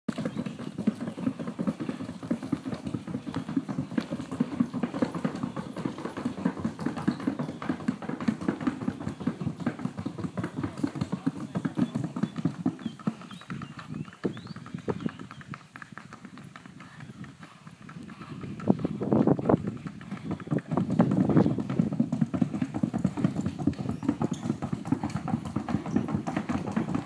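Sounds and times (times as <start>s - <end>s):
horse hooves clip-clopping: 0.1s - 27.0s.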